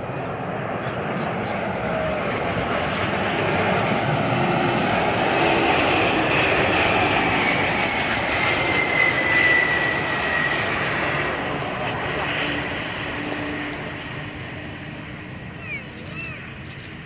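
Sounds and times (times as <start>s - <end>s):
jet engines with high whine: 0.0s - 17.0s.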